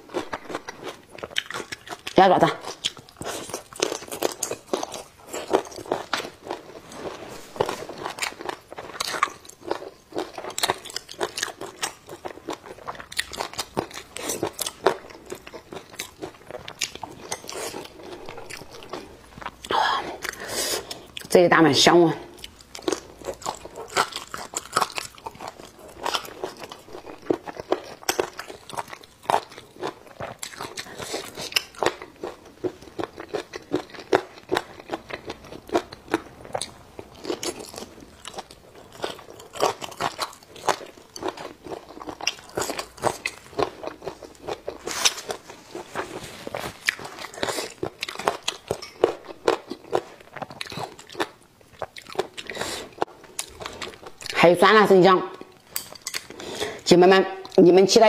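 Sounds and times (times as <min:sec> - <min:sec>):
person chewing food: 0:00.0 - 0:21.3, 0:22.3 - 0:54.4, 0:55.4 - 0:56.8.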